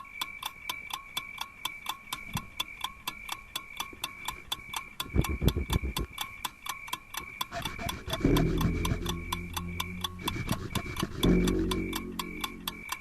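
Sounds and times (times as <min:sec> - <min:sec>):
rapid mechanical ticking: 0:00.2 - 0:13.0.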